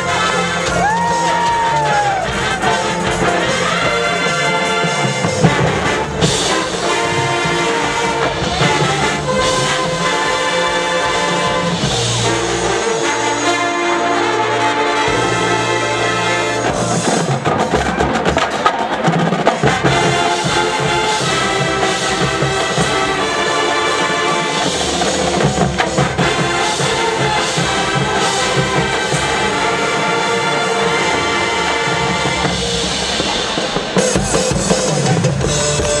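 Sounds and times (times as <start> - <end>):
brass chords: 0.0 - 36.0
marching drumline: 0.0 - 36.0.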